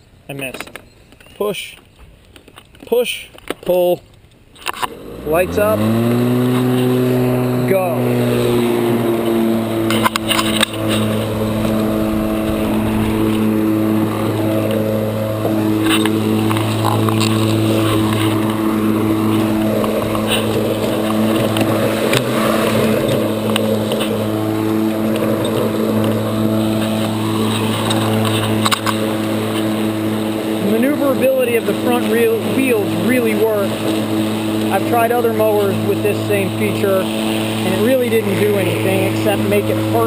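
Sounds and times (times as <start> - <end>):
electric lawn mower cutting grass: 4.6 - 40.0.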